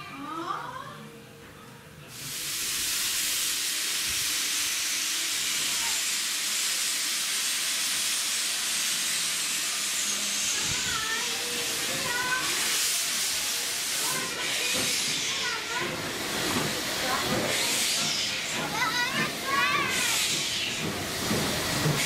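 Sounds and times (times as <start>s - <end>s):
steam hissing from locomotive: 2.1s - 22.0s.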